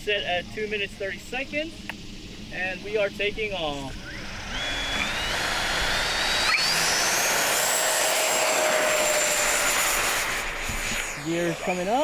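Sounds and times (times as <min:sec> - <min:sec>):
electric fan whine: 0:00.0 - 0:12.0
loud rushing hiss: 0:00.0 - 0:12.0.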